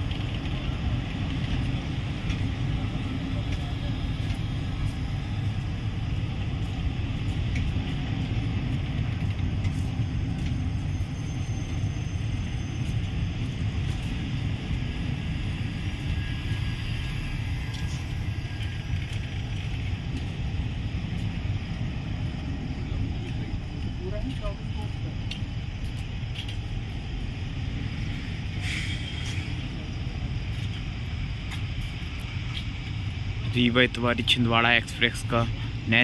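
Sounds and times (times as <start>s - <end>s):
passenger train rumbling: 0.0s - 36.0s.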